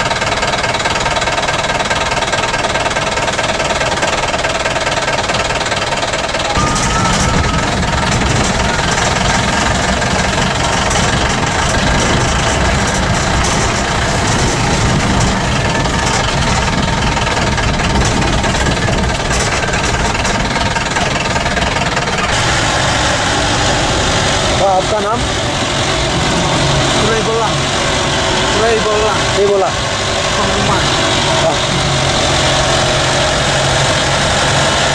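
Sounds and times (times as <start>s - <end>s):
vehicle engine and road rumble: 0.0s - 34.9s.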